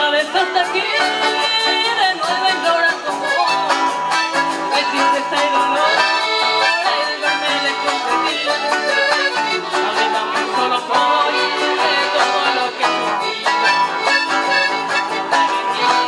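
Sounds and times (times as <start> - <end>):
acoustic guitar strumming: 0.0 - 16.0
live band music: 0.0 - 16.0
piano accordion: 3.0 - 16.0.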